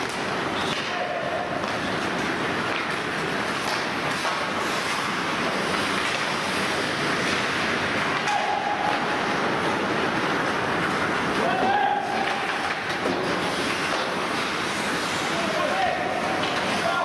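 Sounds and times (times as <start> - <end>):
hockey game rushing noise: 0.0 - 17.0.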